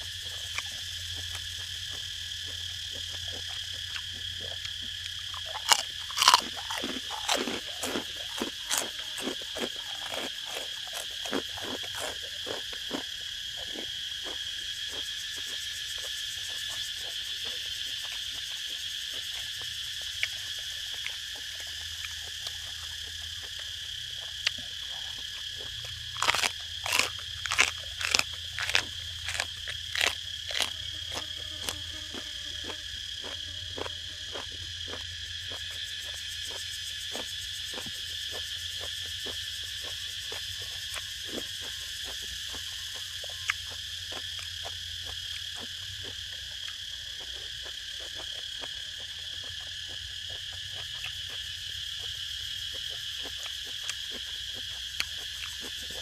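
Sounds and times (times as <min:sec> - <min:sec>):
crunchy chewing: 0:00.0 - 0:56.0
insects chorus: 0:00.0 - 0:56.0.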